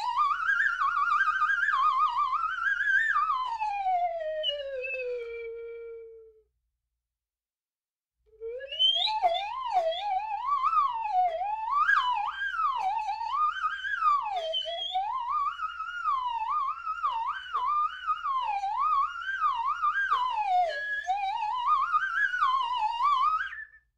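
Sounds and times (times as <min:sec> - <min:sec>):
slide whistle swooping: 0:00.0 - 0:06.4, 0:08.3 - 0:23.9.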